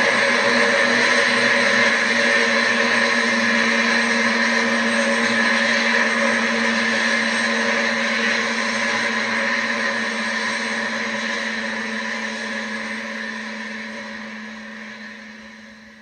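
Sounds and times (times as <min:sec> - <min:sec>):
model helicopter sound hum and whine: 0:00.0 - 0:16.0.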